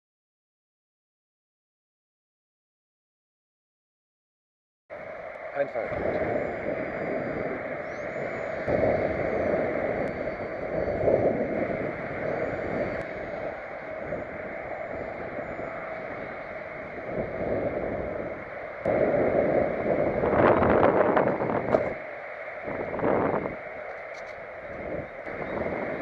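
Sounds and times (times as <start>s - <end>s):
wind buffeting microphone: 4.9s - 26.0s.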